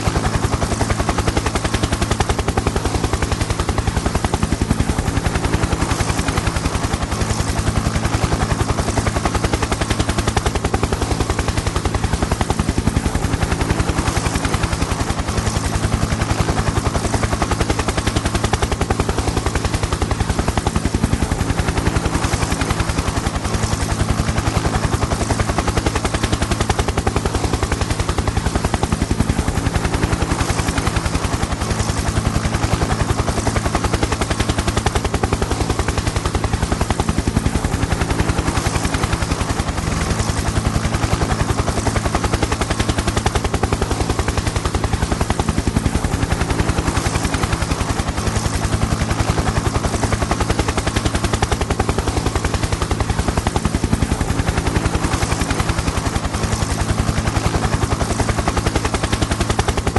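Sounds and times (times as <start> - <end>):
helicopter engine and turbine: 0.0 - 59.9
helicopter rotor chop: 0.0 - 59.9.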